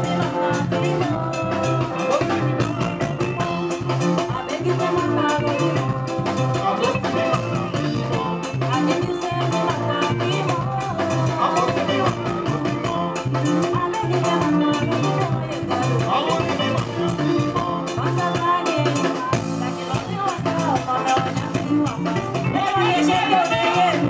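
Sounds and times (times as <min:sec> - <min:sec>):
live band playing dance music: 0:00.0 - 0:24.0.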